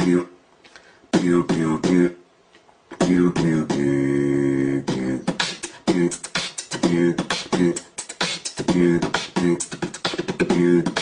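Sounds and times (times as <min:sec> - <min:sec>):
person beatboxing: 0:00.0 - 0:00.4, 0:01.1 - 0:02.2, 0:02.9 - 0:11.0.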